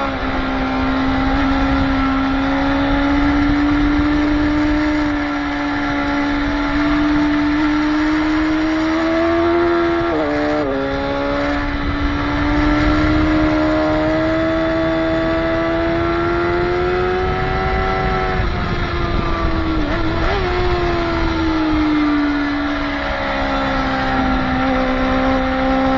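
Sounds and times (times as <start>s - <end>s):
motorcycle engine at high revs: 0.0s - 25.9s
wind on microphone: 0.0s - 25.9s.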